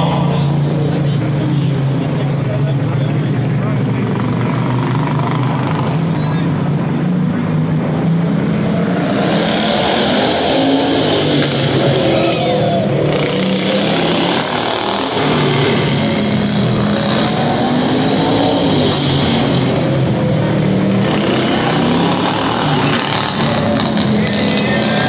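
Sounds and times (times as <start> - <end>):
lawn mower engines revving: 0.0 - 25.0.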